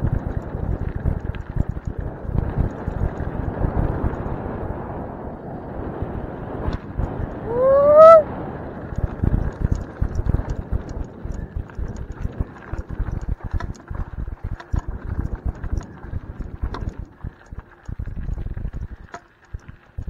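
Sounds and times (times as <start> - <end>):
bicycle rattling on gravel trail: 0.0 - 7.5, 8.3 - 20.0.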